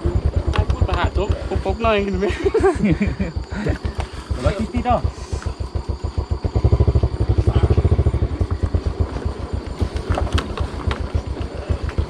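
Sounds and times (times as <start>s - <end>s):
motorbike engine chugging: 0.0s - 12.0s.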